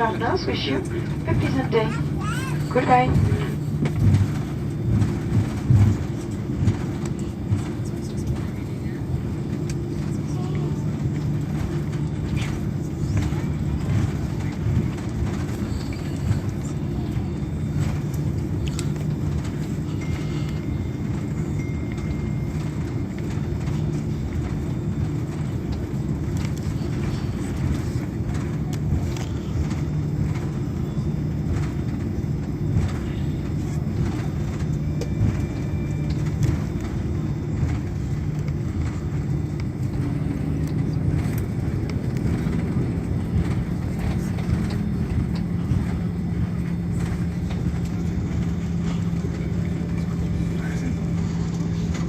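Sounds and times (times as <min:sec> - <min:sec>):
aircraft cabin engine hum: 0:00.0 - 0:52.0.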